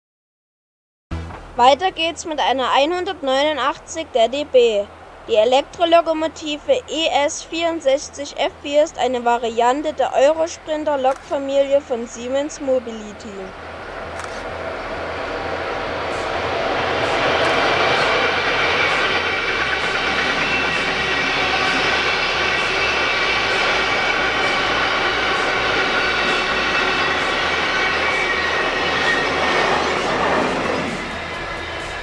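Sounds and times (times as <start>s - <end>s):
freight train passing: 1.1s - 32.0s
steady high-pitched tones: 1.2s - 32.0s.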